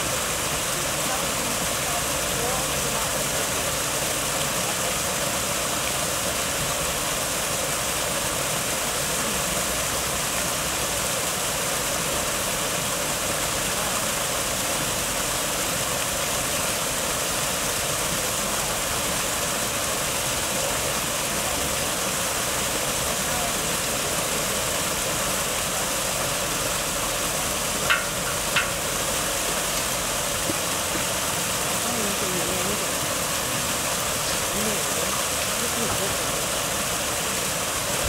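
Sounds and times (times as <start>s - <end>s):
water pouring over rocks into pond: 0.0s - 38.0s.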